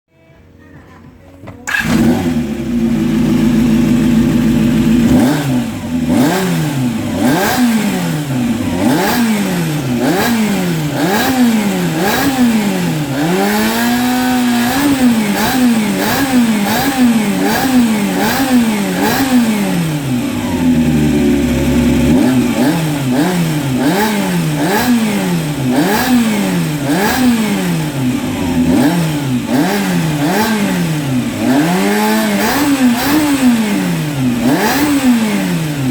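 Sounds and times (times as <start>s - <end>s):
motorcycle engine idling and revving: 1.6s - 35.9s.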